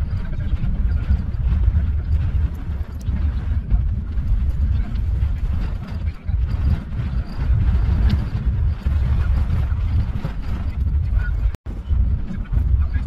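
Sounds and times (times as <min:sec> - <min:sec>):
vehicle rumble on unpaved street: 0:00.0 - 0:13.0
wind buffeting microphone: 0:00.0 - 0:13.0.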